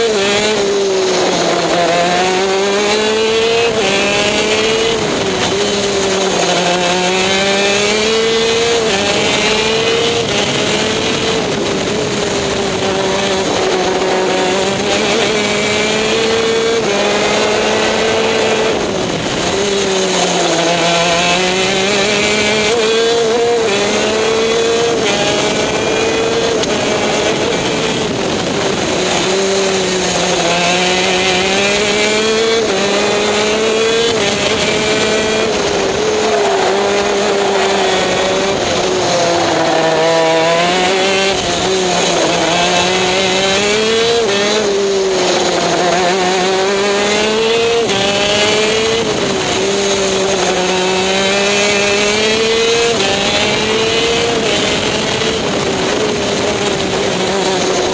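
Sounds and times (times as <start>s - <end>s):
two-stroke kart engine revving: 0.0s - 57.9s.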